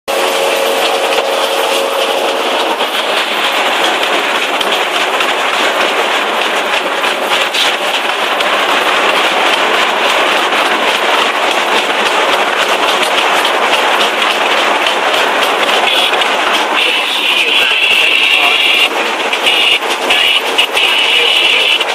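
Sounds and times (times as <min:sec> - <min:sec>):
excavator diesel engine running: 0:00.1 - 0:21.9.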